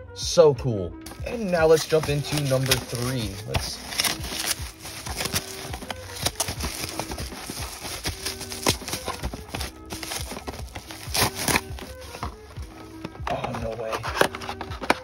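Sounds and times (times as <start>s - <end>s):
bubble wrap crinkling: 1.1s - 15.0s.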